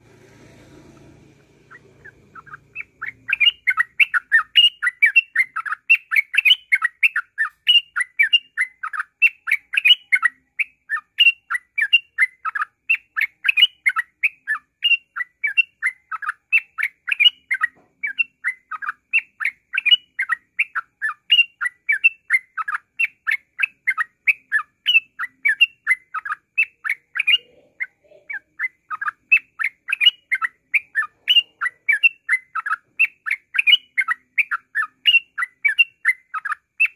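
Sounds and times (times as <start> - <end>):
bird singing fast chirps: 1.0 - 36.9.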